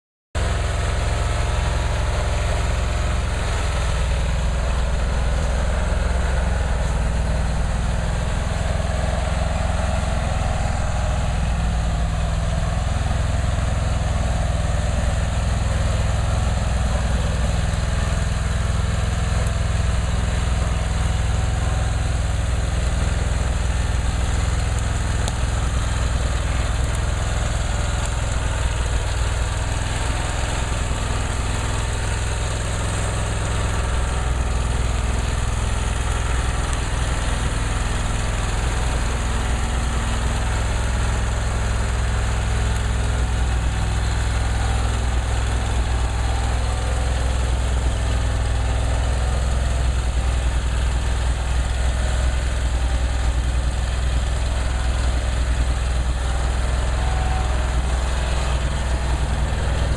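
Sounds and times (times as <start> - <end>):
stump grinder engine running: 0.4 - 59.9.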